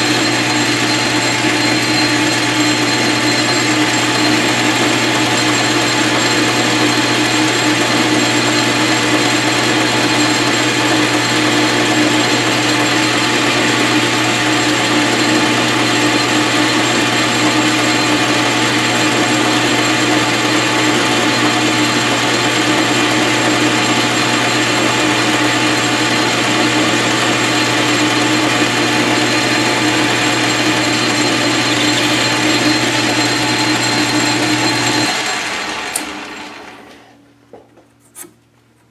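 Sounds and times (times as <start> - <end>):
metal cutting noise: 0.0 - 36.3
lathe humming with high whine: 0.0 - 36.9.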